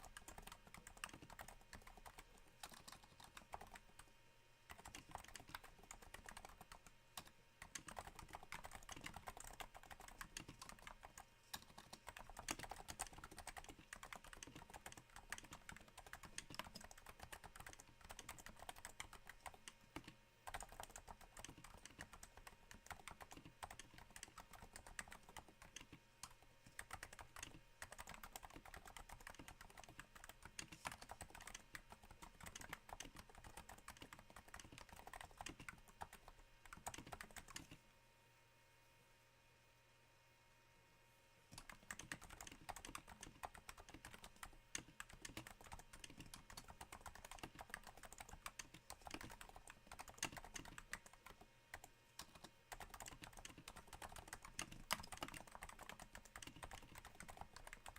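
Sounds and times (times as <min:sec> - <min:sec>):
soft keyboard keystrokes: 0:00.0 - 0:04.1, 0:04.7 - 0:37.8, 0:41.5 - 0:57.9.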